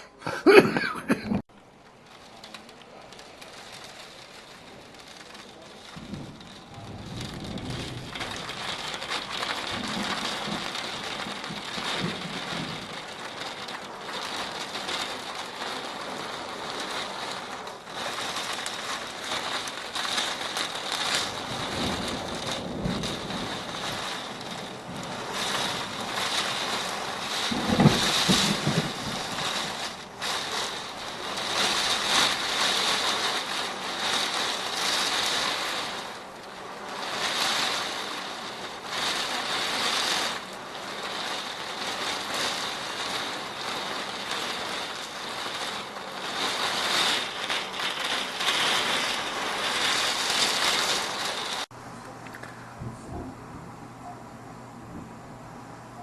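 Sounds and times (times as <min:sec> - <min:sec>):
heavy rain falling: 0:00.0 - 0:56.0
thunder rumbling: 0:01.5 - 0:56.0.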